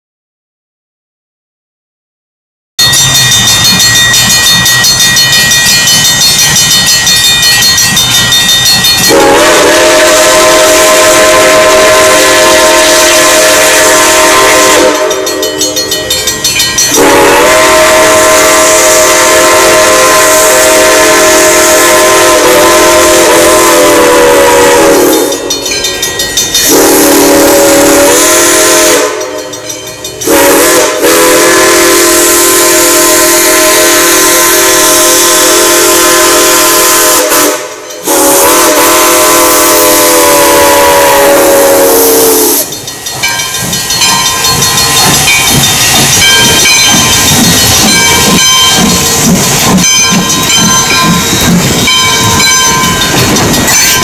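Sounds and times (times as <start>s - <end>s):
steam locomotive chime whistle: 2.8s - 54.0s.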